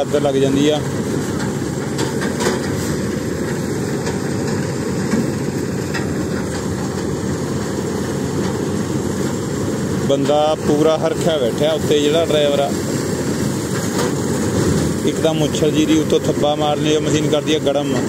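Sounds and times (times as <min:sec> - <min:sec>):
combine harvester running: 0:00.0 - 0:18.0
diesel engine: 0:00.0 - 0:18.0
threshing drum turning: 0:00.0 - 0:18.0.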